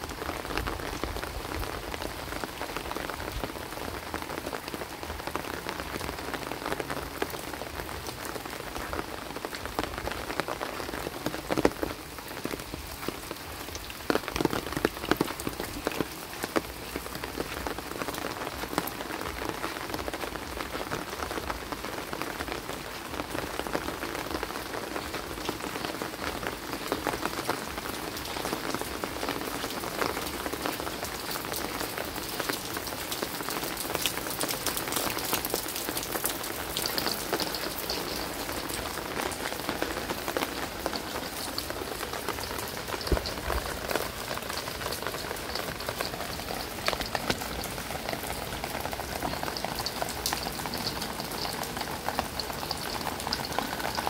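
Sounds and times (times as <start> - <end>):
rain on concrete: 0.0 - 54.0.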